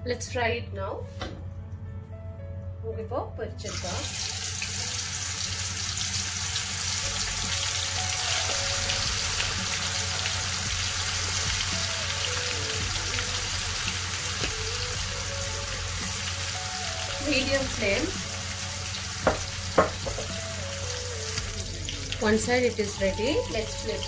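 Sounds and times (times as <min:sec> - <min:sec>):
chicken sizzling in hot oil: 0:03.6 - 0:24.0.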